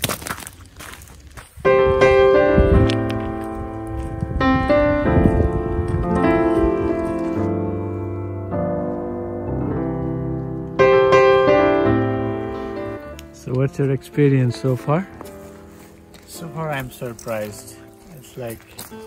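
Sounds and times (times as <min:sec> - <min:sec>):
piano chords: 0:01.6 - 0:19.0.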